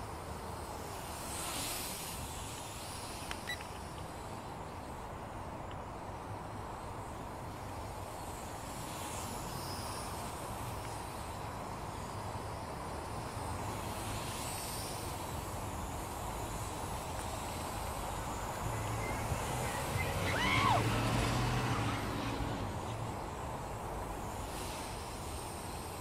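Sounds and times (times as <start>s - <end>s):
faint whine: 0.0s - 26.0s
outdoor hiss: 0.0s - 26.0s
toy drone motors whirring: 0.3s - 26.0s.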